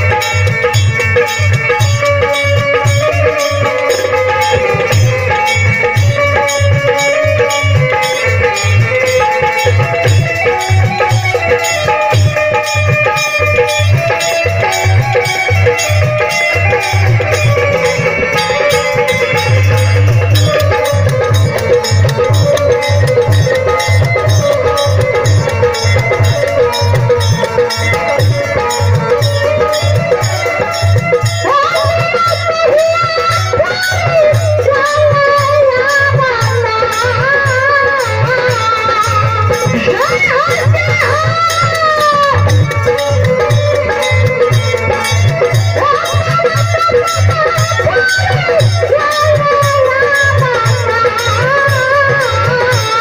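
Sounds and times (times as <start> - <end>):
dholak beat: 0.0 - 53.0
rattling hand percussion: 0.0 - 53.0.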